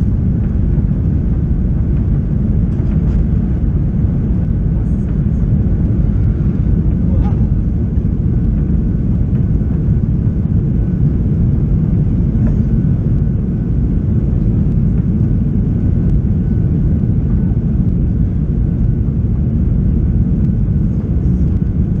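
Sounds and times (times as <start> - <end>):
aircraft cabin engine rumble: 0.0 - 22.0
faint steady whine: 0.0 - 22.0.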